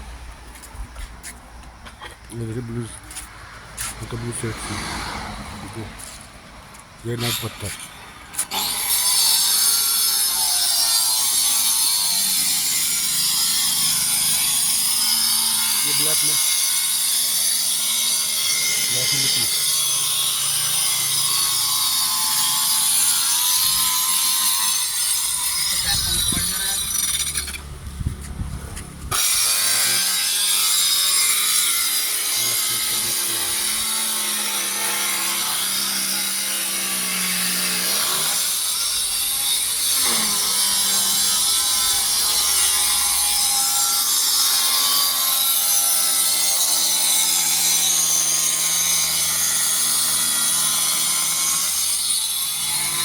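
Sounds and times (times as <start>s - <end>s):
machine grinding: 7.2s - 53.0s.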